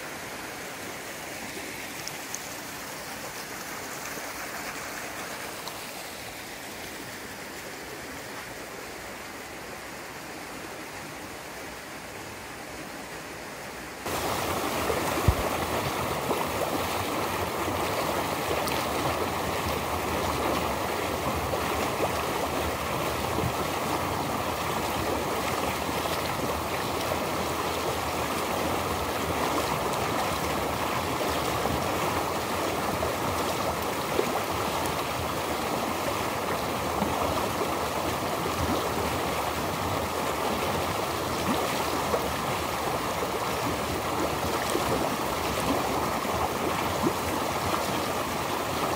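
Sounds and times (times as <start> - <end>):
flowing stream water: 0.0 - 48.9.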